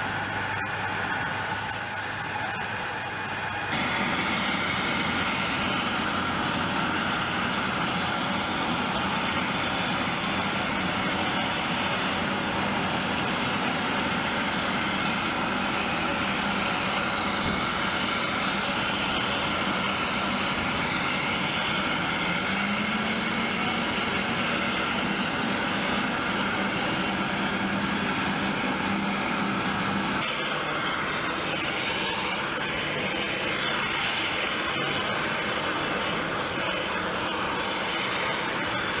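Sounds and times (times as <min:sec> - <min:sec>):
engine and turbine whine: 0:00.0 - 0:39.0.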